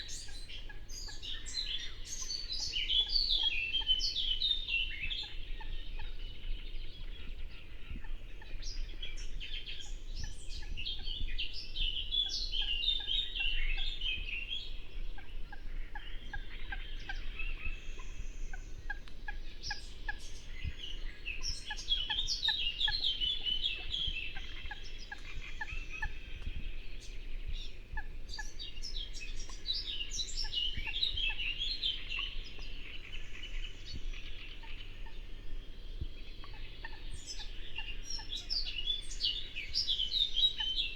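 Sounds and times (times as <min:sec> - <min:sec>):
songbird chattering song: 0:00.0 - 0:40.9.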